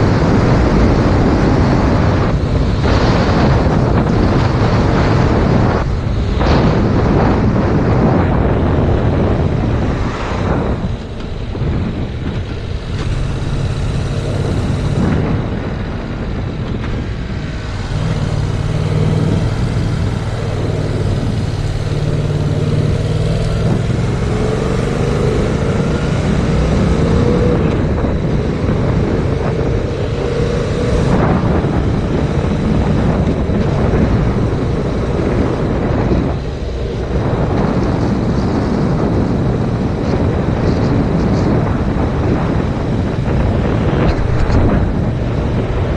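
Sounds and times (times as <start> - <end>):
motorcycle engine accelerating: 0.0 - 45.9
wind buffeting microphone: 0.0 - 45.9.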